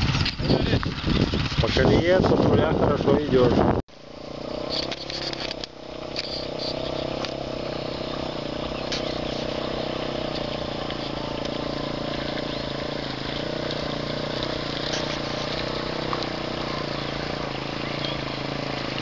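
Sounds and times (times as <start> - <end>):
motorcycle engine under load: 0.0 - 19.0.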